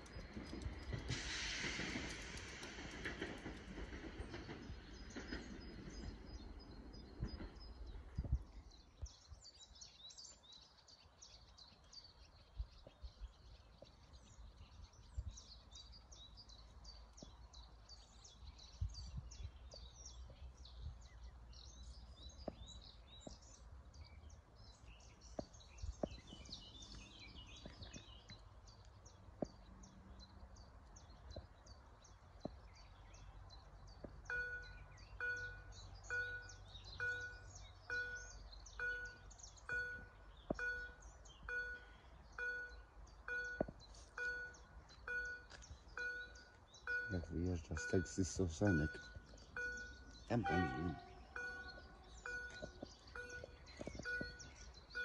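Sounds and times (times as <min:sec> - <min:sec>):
low train rumble: 0:00.0 - 0:55.0
small birds chirping: 0:03.8 - 0:55.0.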